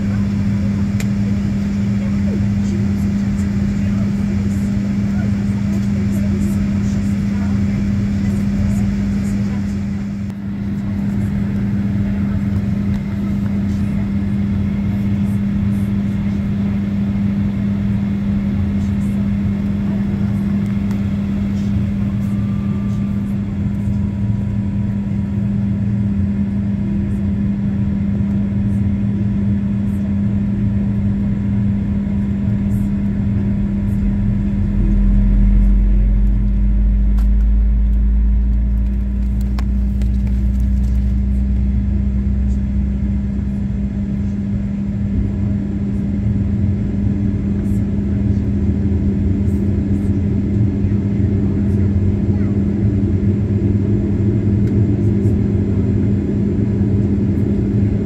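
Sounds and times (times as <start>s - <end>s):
aircraft cabin drone: 0.0s - 58.0s
deeper engine rumble: 0.0s - 58.0s.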